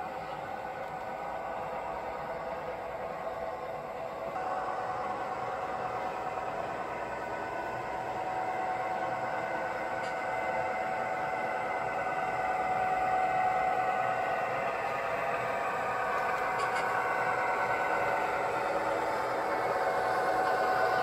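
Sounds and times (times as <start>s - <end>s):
model train motor whirring: 0.0s - 21.0s.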